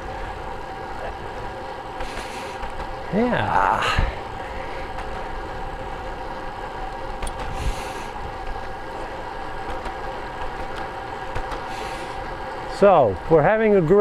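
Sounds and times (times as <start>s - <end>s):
wind and tyre noise: 0.0s - 14.0s.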